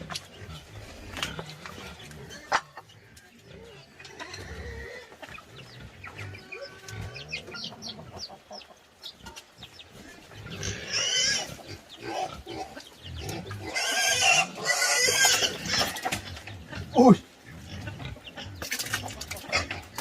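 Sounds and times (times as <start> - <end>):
pigs grunting: 0.0 - 8.3, 9.2 - 20.0
pigs squealing: 0.0 - 8.3, 9.9 - 20.0.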